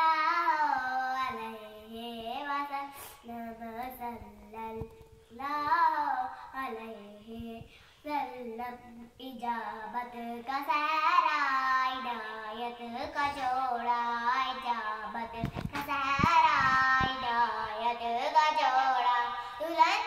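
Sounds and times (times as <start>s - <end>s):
girl singing devotional song: 0.0s - 20.0s.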